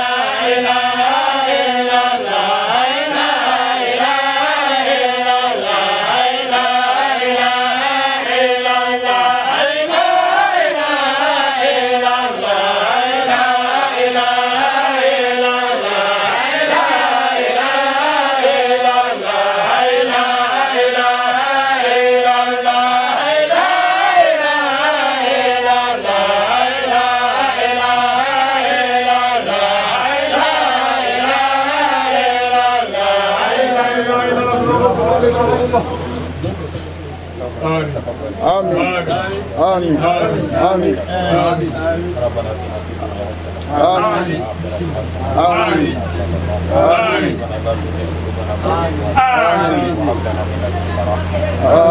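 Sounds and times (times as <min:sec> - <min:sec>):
men chanting a prayer: 0:00.0 - 0:51.9.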